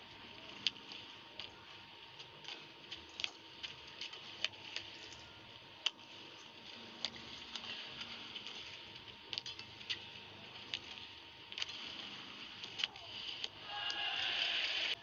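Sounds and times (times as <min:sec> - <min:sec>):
arena background noise: 0:00.0 - 0:15.0.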